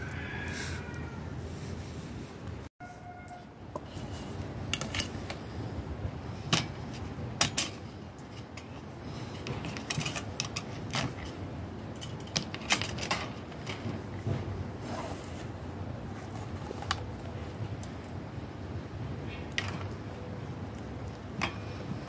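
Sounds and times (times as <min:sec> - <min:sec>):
background noise: 0:00.0 - 0:22.0.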